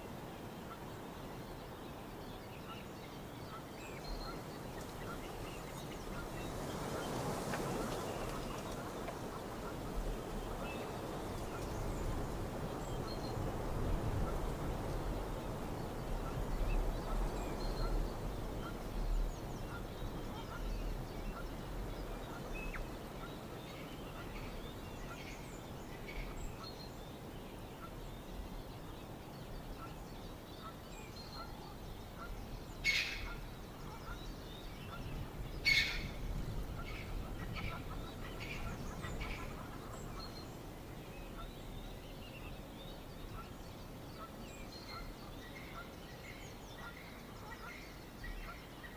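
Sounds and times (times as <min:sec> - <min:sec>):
low wind rumble: 0:03.0 - 0:48.9.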